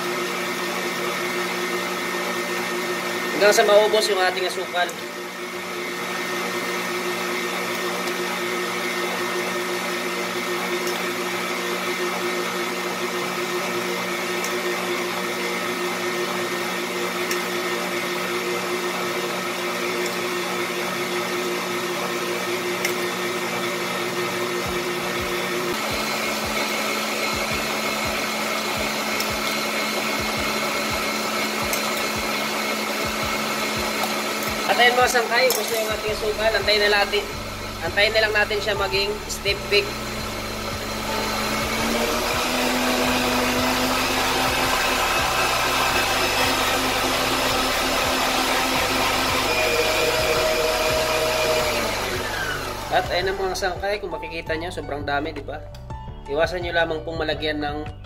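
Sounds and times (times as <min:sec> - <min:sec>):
stand mixer whisking: 0:00.0 - 0:53.8.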